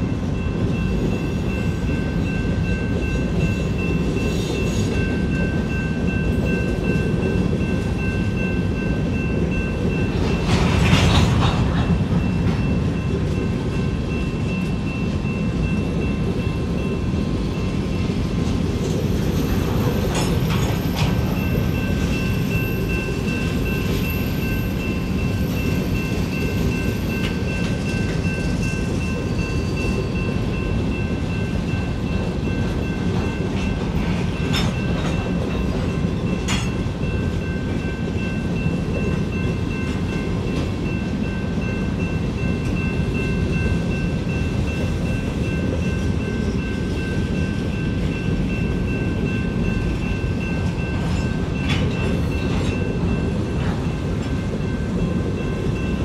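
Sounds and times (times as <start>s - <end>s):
freight cars rumbling on rails: 0.0s - 56.0s
wheels clicking on rail joints: 2.7s - 16.5s, 17.9s - 56.0s.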